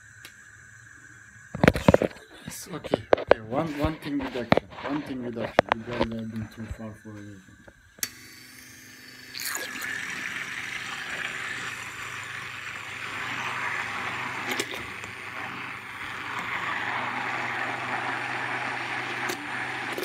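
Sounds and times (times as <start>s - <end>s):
electric stick blender running: 2.8s - 20.0s.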